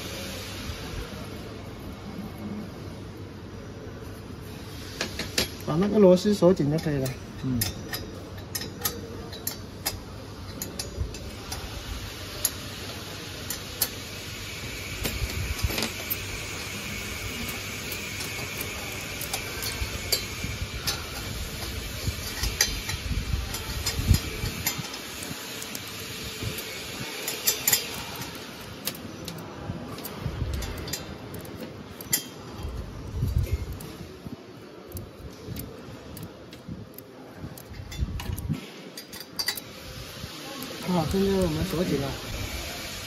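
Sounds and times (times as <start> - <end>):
steady background hiss: 0.0 - 43.0
metal clinks and scrapes: 4.6 - 40.2.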